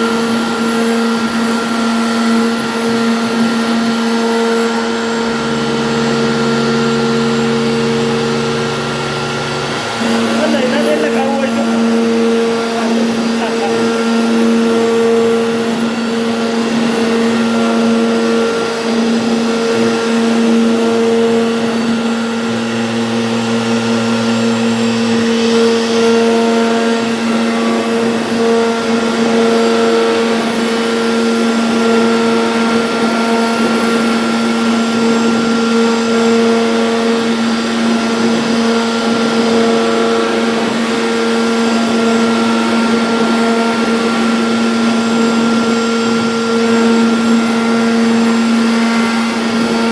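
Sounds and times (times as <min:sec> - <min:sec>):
router spindle whining: 0:00.0 - 0:49.9.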